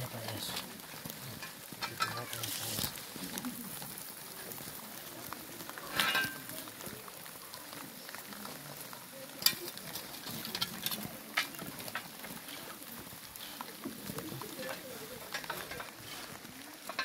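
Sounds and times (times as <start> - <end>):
hot stones hissing: 0.0 - 17.0
sharp crackles and clicks: 0.0 - 17.0.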